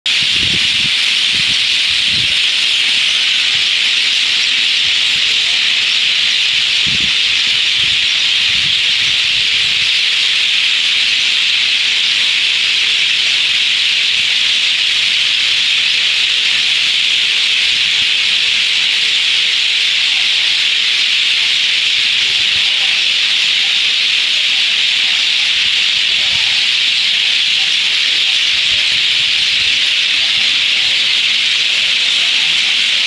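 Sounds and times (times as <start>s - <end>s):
flock of birds chirping: 0.1s - 33.0s.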